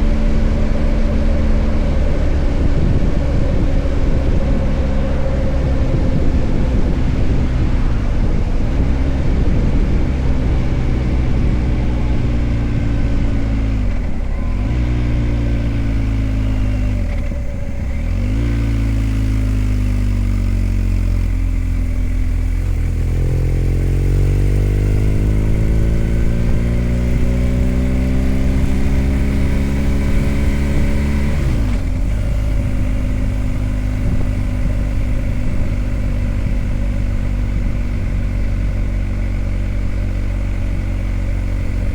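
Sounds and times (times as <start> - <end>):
motorcycle engine accelerating: 0.0 - 41.9
wind and road noise: 0.0 - 41.9.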